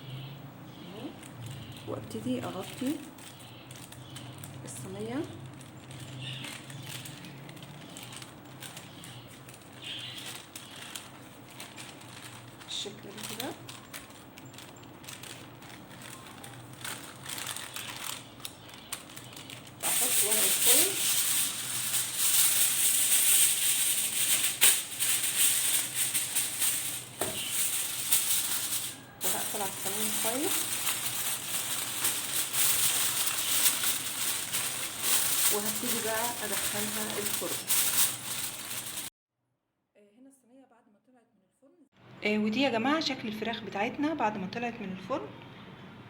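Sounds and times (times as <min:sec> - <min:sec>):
aluminium foil crinkling: 0:01.0 - 0:39.1
parchment paper rustling: 0:01.1 - 0:39.1.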